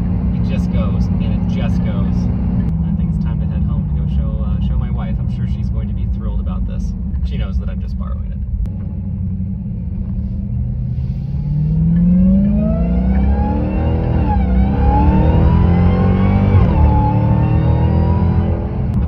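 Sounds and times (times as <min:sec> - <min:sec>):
car engine accelerating: 0:00.0 - 0:19.0
supercharger whine: 0:00.0 - 0:19.0.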